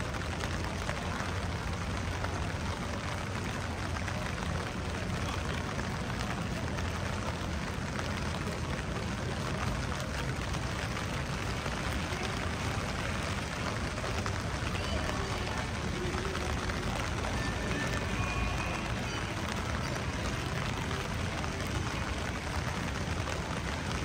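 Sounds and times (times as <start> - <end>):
rain on wet street: 0.0 - 24.0
traffic rumble: 0.0 - 24.0.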